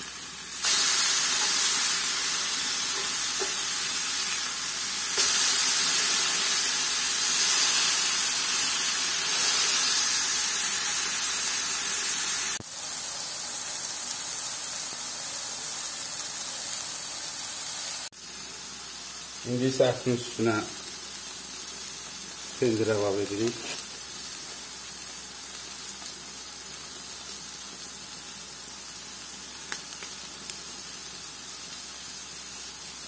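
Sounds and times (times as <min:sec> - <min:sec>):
burger patties sizzling on grill pan: 0:00.0 - 0:33.0.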